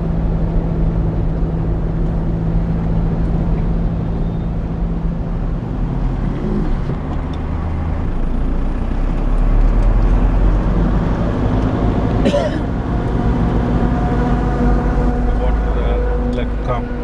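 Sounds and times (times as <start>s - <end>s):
road noise: 0.0s - 17.0s
vehicle engine running: 0.0s - 17.0s.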